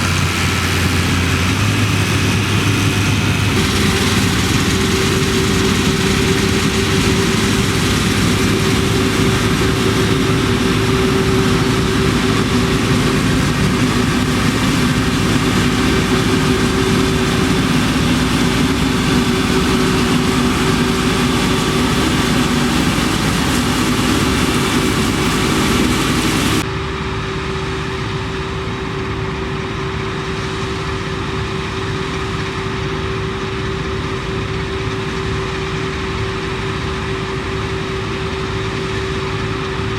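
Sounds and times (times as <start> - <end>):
harvest machinery engine drone: 0.0 - 39.9.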